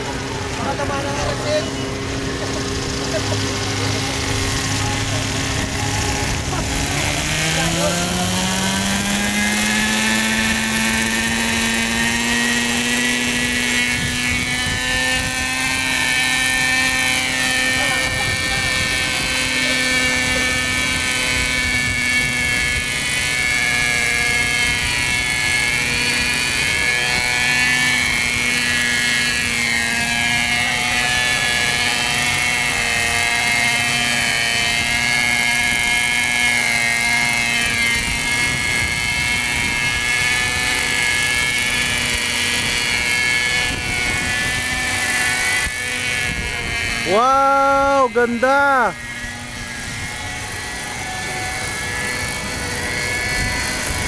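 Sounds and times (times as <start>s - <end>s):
model helicopter engine whine: 0.0s - 54.0s.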